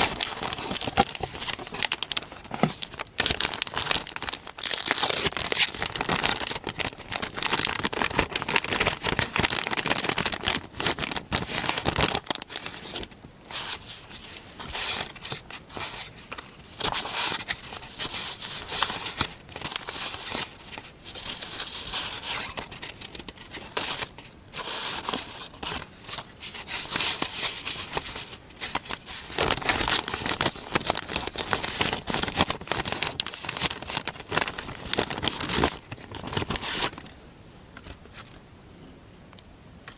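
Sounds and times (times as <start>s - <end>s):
paper crinkling and tearing: 0.0s - 37.2s.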